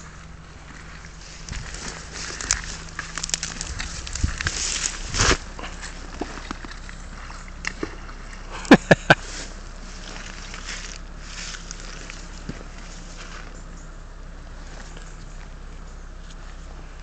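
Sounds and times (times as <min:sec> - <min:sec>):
river water flowing over gravel: 0:00.0 - 0:17.0.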